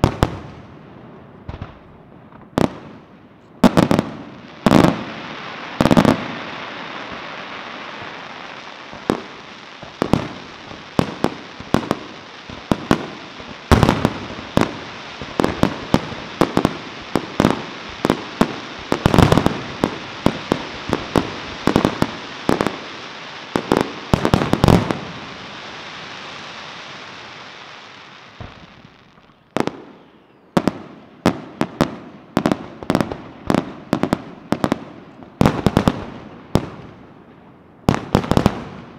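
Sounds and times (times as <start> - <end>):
continuous hiss: 0.0 - 38.9
fireworks bangs: 0.0 - 38.9.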